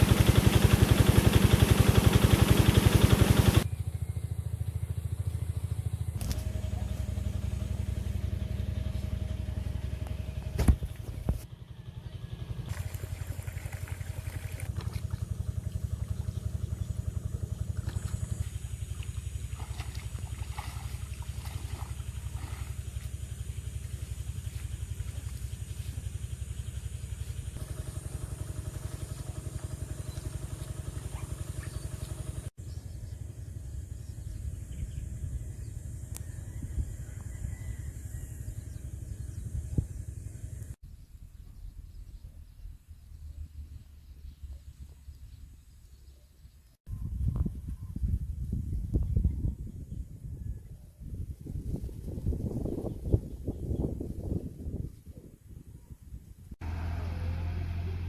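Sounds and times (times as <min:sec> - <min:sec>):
engine running: 0:00.0 - 0:46.0, 0:56.5 - 0:58.0.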